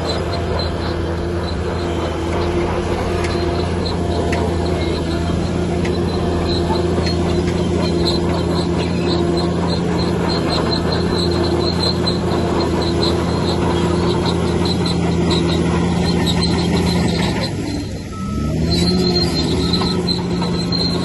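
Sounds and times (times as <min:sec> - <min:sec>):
bulldozer diesel engine running: 0:00.0 - 0:21.0
steel tracks squeaking: 0:00.0 - 0:21.0.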